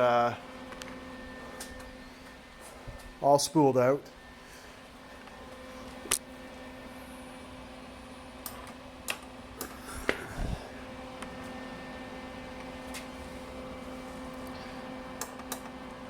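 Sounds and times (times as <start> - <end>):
welder humming: 0.0 - 16.0.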